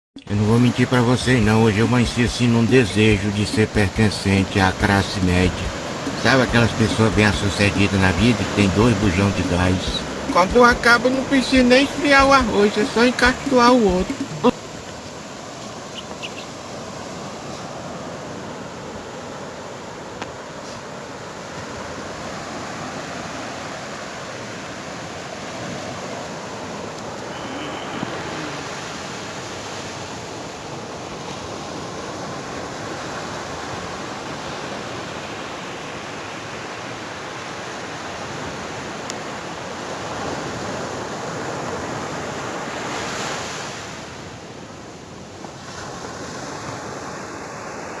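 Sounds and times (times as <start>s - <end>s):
sea surf washing onto beach: 0.3s - 48.0s.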